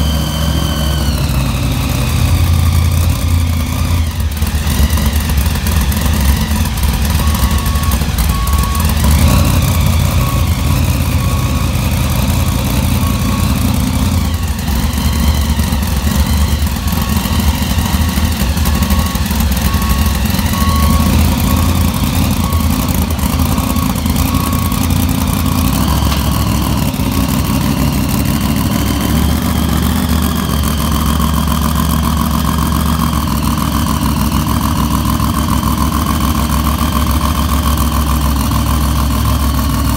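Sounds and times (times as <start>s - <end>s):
reversing alarm beep: 0.0s - 39.9s
truck engine lumpy idle: 0.0s - 39.9s.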